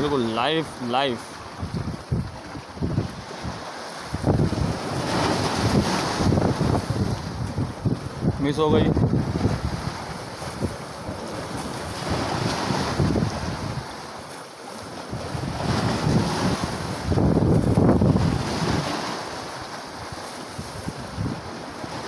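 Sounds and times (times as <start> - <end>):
sea waves: 0.0 - 22.0
wind buffeting microphone: 1.3 - 22.0.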